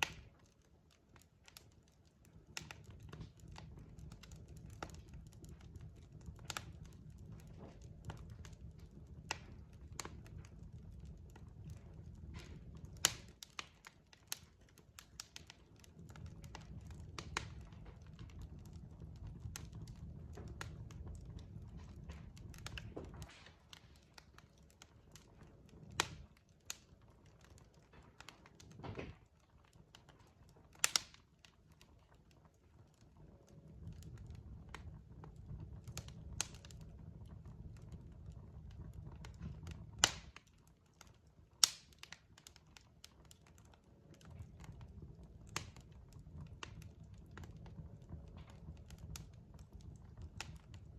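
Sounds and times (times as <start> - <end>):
log fire crackling: 0.0 - 50.9
low rumble of burning: 0.0 - 50.9.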